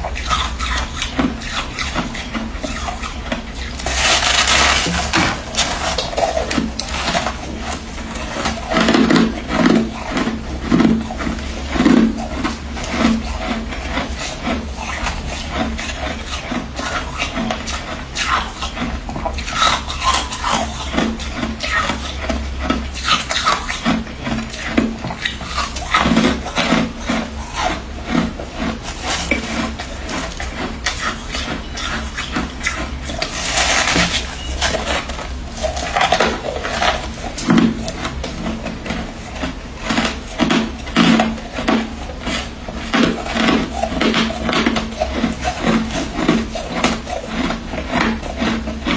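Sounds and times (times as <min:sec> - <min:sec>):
crunching frost being chewed: 0:00.0 - 0:48.9
gritty rasp: 0:00.0 - 0:48.9.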